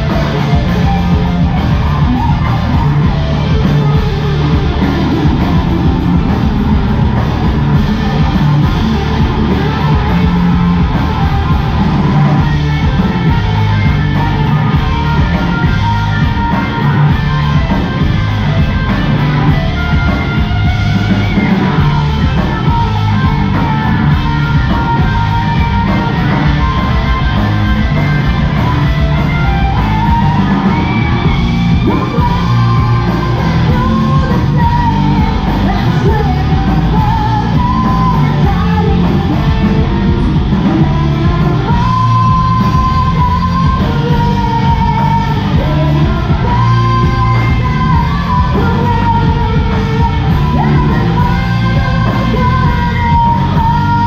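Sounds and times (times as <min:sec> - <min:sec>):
bass guitar: 0:00.0 - 0:54.0
drums: 0:00.0 - 0:54.0
electric guitars: 0:00.0 - 0:54.0
woman singing: 0:00.0 - 0:54.0.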